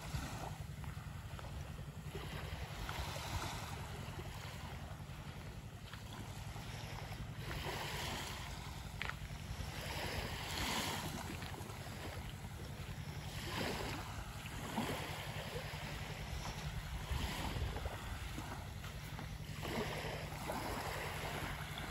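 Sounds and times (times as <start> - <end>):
small waves washing on shore: 0.0 - 21.9
wind on microphone: 0.0 - 21.9.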